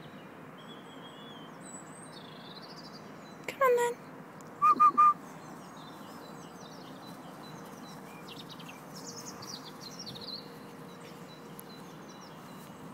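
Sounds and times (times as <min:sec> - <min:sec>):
birds chirping and trilling: 0:00.0 - 0:12.9
outdoor background hiss: 0:00.0 - 0:12.9.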